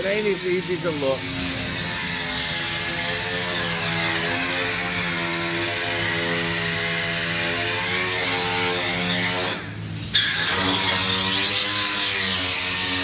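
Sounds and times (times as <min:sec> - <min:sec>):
power tool humming: 0:00.0 - 0:13.0.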